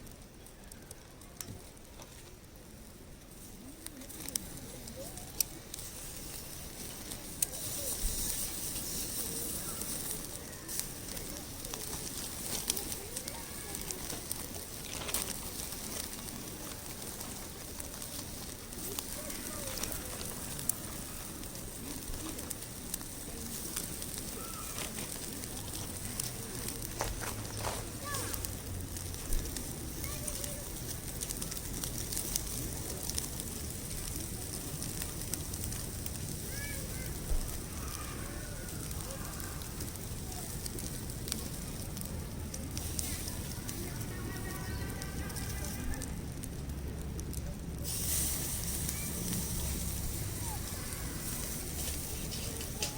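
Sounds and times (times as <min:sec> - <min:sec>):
firewood crackling and popping: 0:00.0 - 0:52.9.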